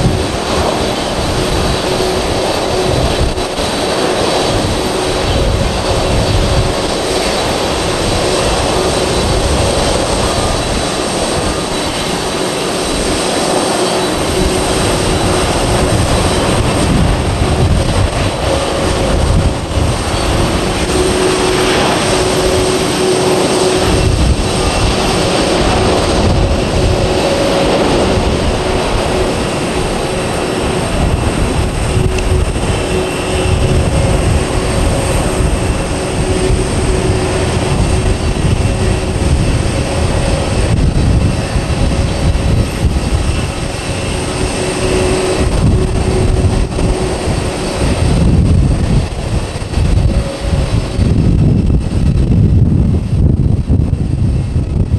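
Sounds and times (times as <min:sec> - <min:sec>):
jet airliner taking off: 0:00.0 - 0:54.9.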